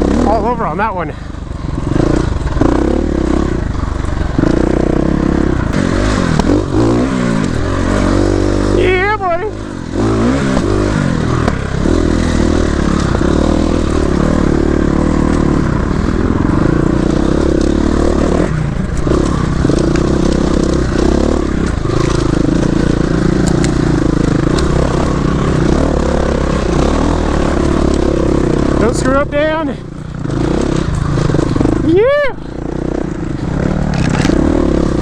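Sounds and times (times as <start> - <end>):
dirt bike engine revving: 0.0 - 35.0
scraping and clattering terrain: 5.6 - 31.8, 33.2 - 35.0.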